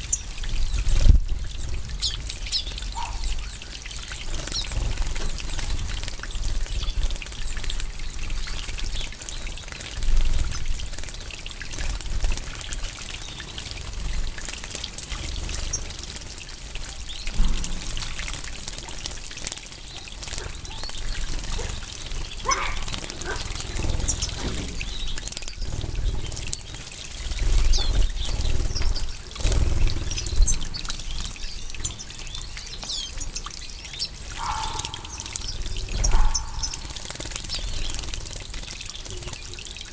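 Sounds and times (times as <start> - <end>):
birds chirping and twittering: 0.0 - 11.9, 13.0 - 39.9
birds splashing in water: 0.0 - 39.9.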